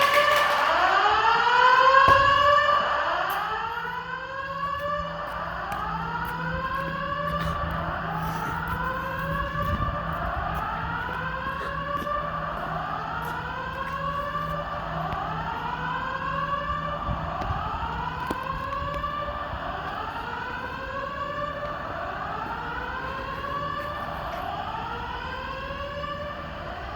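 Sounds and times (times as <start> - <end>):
fire alarm rising whoop: 0.0 - 26.9.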